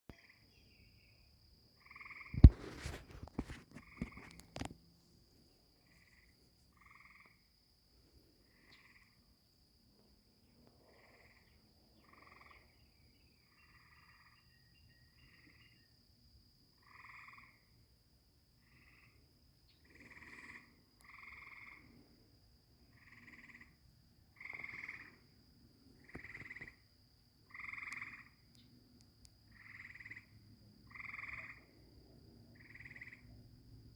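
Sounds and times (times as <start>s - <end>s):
tree frogs trilling: 0.1s - 4.7s, 5.8s - 7.5s, 8.4s - 9.4s, 10.4s - 16.1s, 16.7s - 17.9s, 18.5s - 33.8s
crickets trilling: 0.1s - 33.9s.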